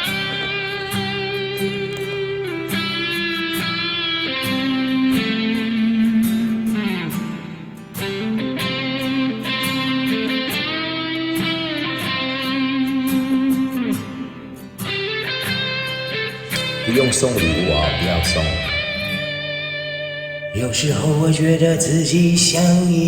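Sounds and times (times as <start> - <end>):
electric guitar melody: 0.0 - 23.0.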